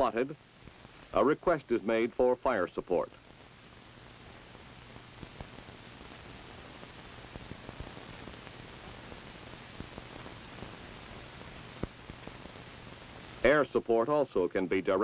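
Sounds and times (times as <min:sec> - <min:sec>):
low mains hum: 0:00.0 - 0:15.0
soundtrack hiss: 0:00.0 - 0:15.0.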